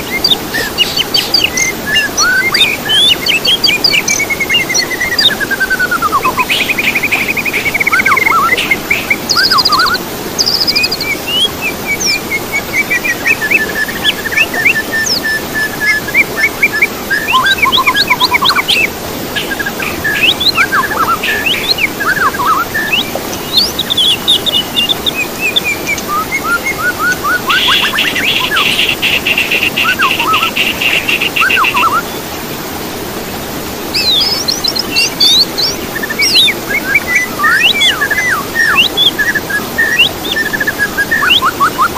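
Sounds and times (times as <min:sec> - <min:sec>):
songbirds singing: 0:00.0 - 0:32.4, 0:33.8 - 0:41.9
noisy background: 0:00.0 - 0:41.9.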